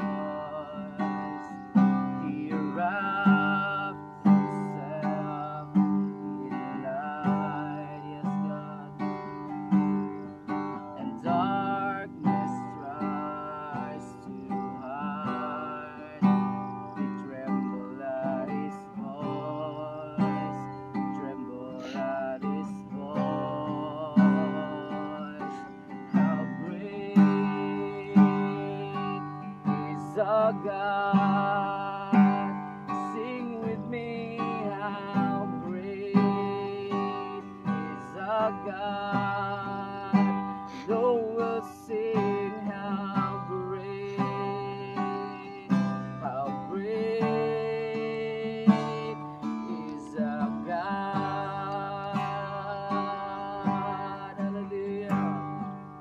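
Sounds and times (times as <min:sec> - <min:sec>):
man singing: 0:00.0 - 0:56.0
strummed acoustic guitar: 0:00.0 - 0:56.0.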